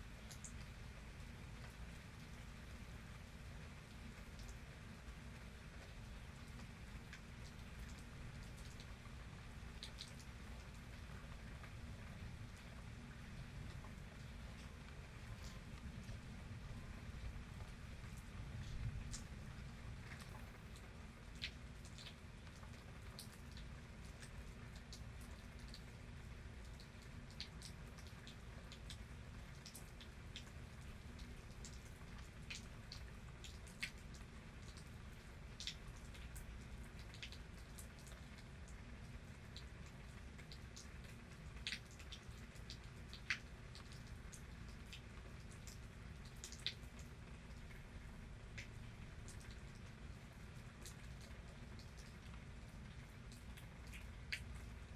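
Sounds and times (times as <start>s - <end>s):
faint low background noise: 0.0s - 54.9s
raindrops dripping: 0.0s - 54.9s.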